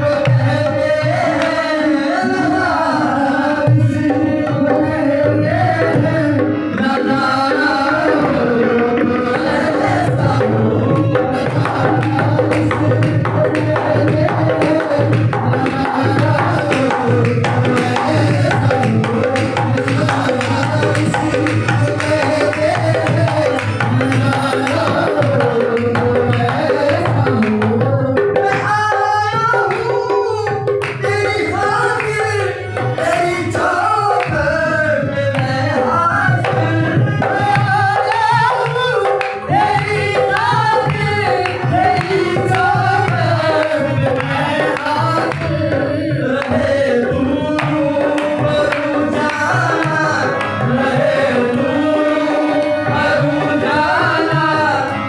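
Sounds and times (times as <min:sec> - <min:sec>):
hand drums: 0:00.0 - 0:03.0, 0:03.6 - 0:55.0
men singing devotional song: 0:00.0 - 0:55.0.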